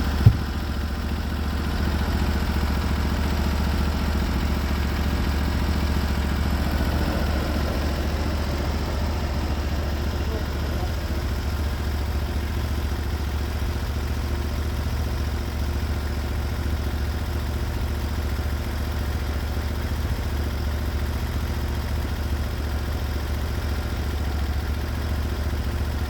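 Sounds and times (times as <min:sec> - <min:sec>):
sawmill engine running: 0:00.0 - 0:22.2.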